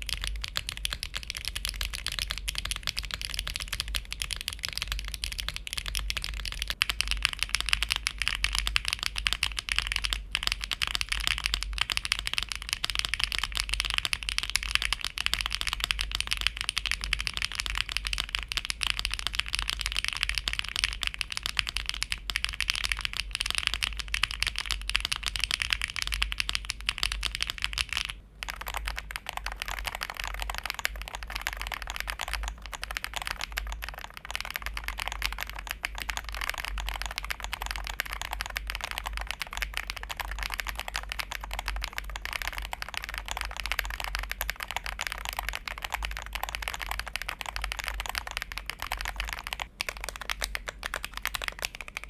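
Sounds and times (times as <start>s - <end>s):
mechanical keyboard typing: 0.0s - 52.0s.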